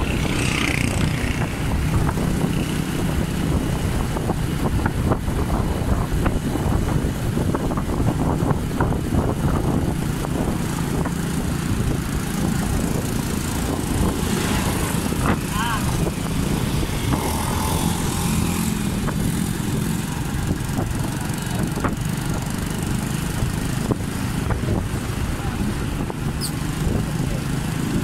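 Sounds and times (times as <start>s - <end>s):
motorcycle engine running: 0.0s - 28.0s
wind rumble on microphone: 0.0s - 28.0s.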